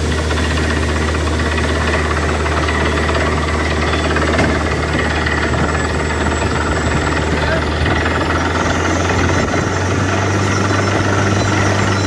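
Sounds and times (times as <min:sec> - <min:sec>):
drill hammering rattle: 0:00.0 - 0:12.0
engine drone: 0:00.0 - 0:12.0.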